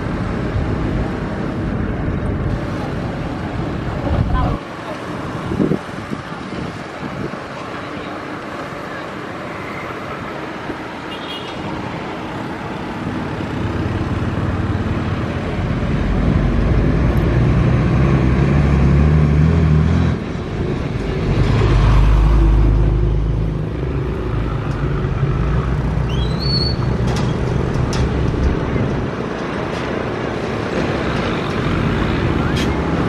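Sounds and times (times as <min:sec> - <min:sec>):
heavy diesel engines rumbling: 0:00.0 - 0:33.0.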